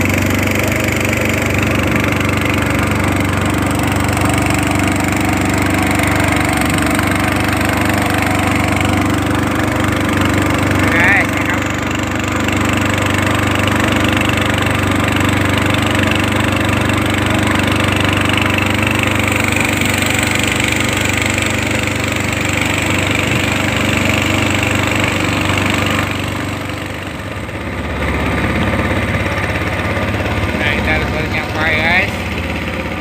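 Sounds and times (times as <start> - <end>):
small boat engine running: 0.0 - 33.0.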